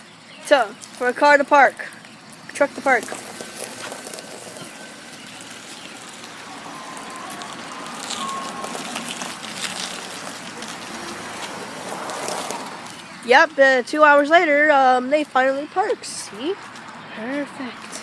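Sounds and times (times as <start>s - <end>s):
truck manoeuvring: 0.0s - 15.0s.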